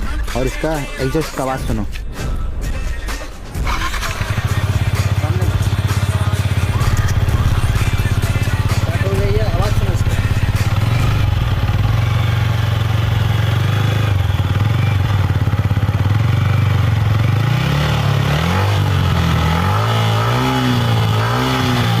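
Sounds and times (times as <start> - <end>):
motorcycle engine idling and revving: 3.5 - 22.0.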